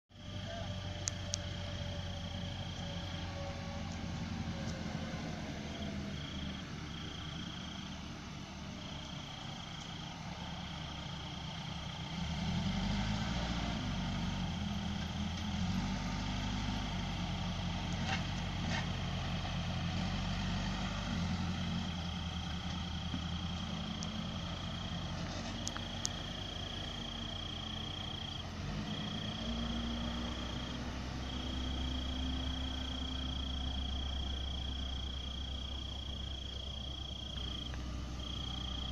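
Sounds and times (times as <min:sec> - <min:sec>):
backhoe diesel engine running: 0:00.1 - 0:38.9
high insect trill: 0:00.2 - 0:38.9.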